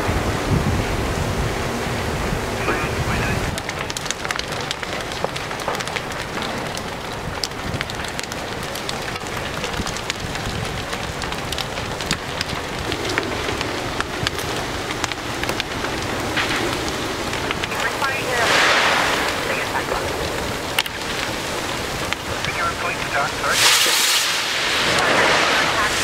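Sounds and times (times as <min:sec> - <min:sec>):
fire crackles and pops: 0:00.0 - 0:26.0
large fire burning: 0:00.0 - 0:26.0.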